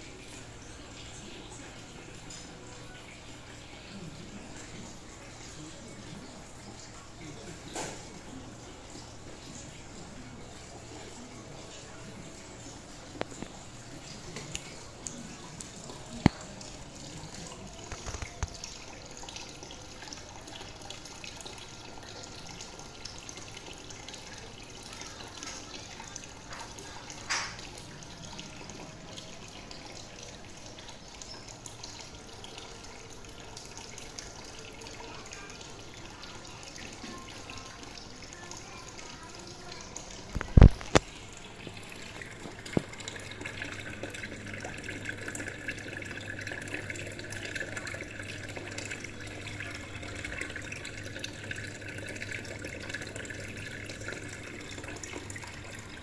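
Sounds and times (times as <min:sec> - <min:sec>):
water trickling in aquarium: 0:00.0 - 0:56.0.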